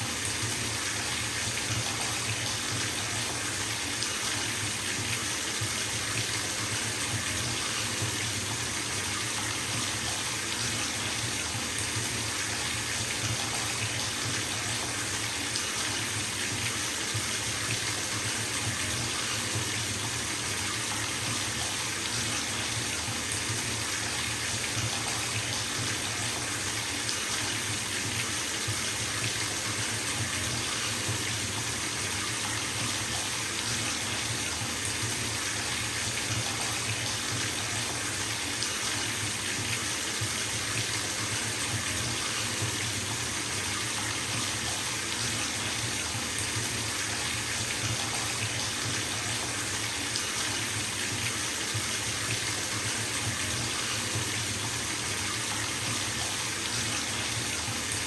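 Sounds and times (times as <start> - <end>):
tap water filling bathtub: 0.0 - 58.0.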